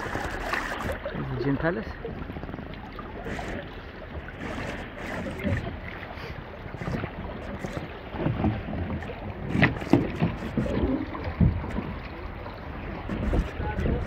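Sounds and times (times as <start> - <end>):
waves lapping on pebbles: 0.0 - 11.4
wind rumbling on microphone: 0.0 - 14.0.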